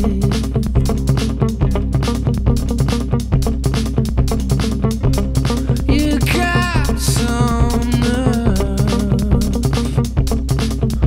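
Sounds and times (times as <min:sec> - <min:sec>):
funk music with bass and drums: 0:00.0 - 0:11.0.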